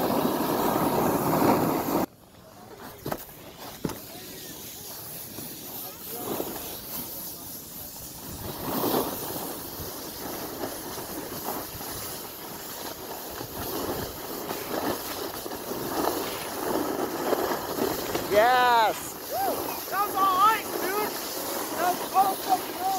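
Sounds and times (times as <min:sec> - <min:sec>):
snowboards scraping icy snow: 0:00.0 - 0:22.9.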